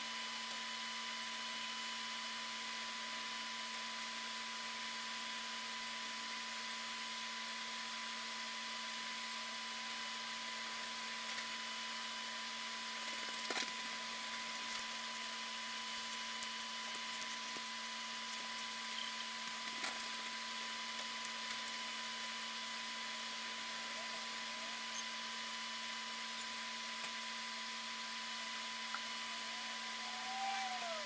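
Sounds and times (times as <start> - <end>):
constant whine: 0.0 - 31.0.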